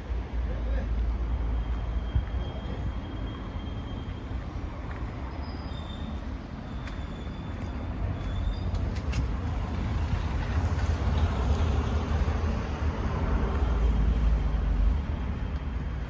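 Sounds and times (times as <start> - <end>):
van engine rumble: 0.0 - 16.0.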